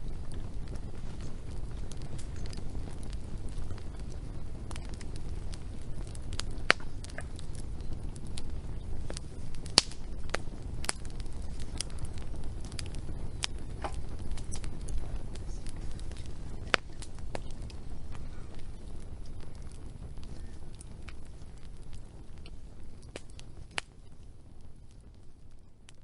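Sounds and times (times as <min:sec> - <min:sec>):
burning logs popping: 0:00.0 - 0:26.0
rush of flames: 0:00.0 - 0:26.0
wood fire crackling: 0:00.0 - 0:26.0.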